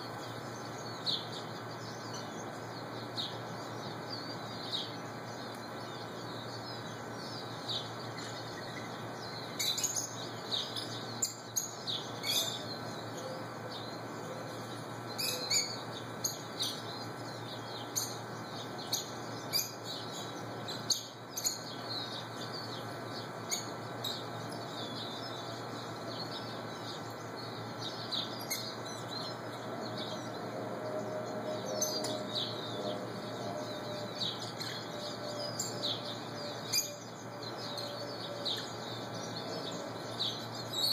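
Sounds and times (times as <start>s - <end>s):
lovebirds chirping: 0.0s - 40.9s
steady background hum: 0.0s - 40.9s.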